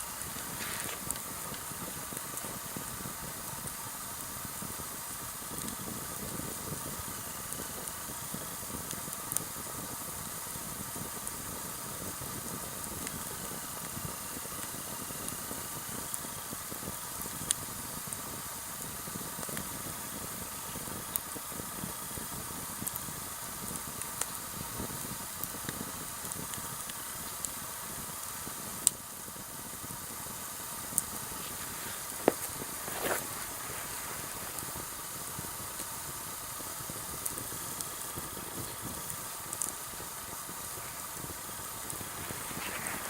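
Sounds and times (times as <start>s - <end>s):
campfire hissing and crackling: 0.0s - 43.0s.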